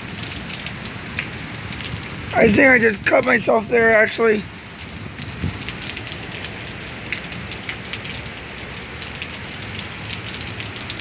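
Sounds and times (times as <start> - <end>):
rain falling steadily: 0.0 - 11.0
raindrops tapping close by: 0.0 - 11.0.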